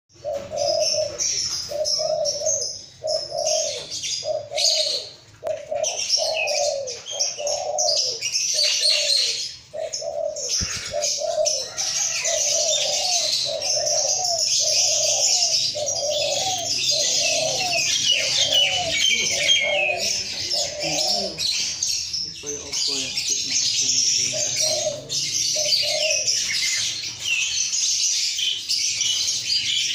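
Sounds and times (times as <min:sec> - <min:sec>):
bird cooing: 0:00.1 - 0:29.9
lovebirds chattering: 0:00.1 - 0:29.9.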